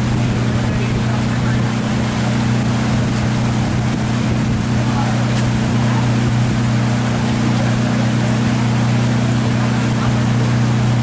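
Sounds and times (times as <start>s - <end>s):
boat engine droning: 0.0s - 11.0s
water washing around hull: 0.0s - 11.0s.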